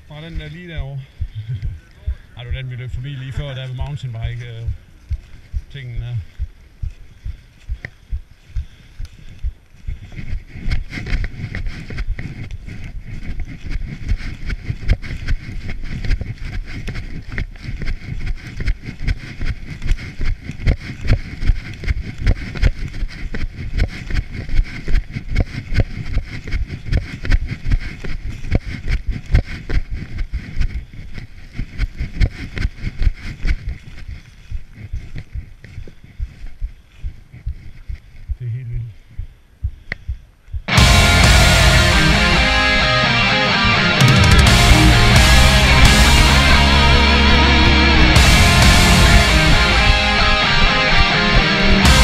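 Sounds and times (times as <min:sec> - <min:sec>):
running footsteps: 0:00.0 - 0:38.4, 0:40.5 - 0:52.0.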